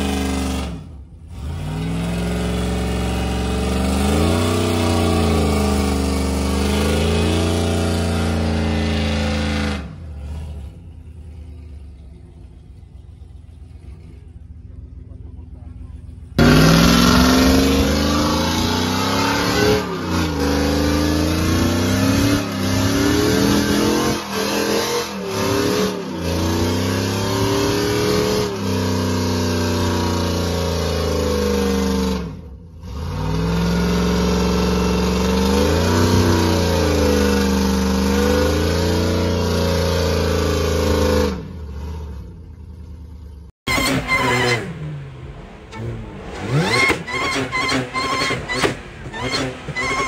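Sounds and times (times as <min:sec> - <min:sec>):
truck engine revving high: 0:00.0 - 0:42.4, 0:43.6 - 0:50.0.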